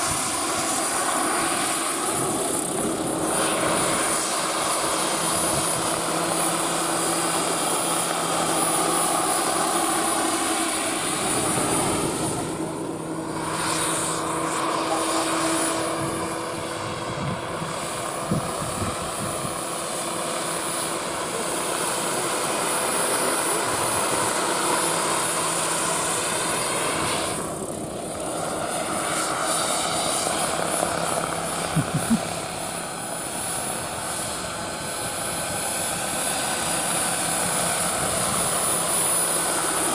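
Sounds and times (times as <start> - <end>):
model helicopter whine: 0.0 - 39.9.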